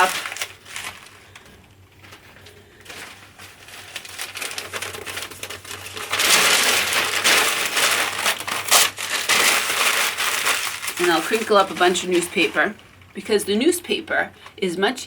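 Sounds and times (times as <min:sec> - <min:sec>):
newspaper being crumpled: 0:00.0 - 0:13.3.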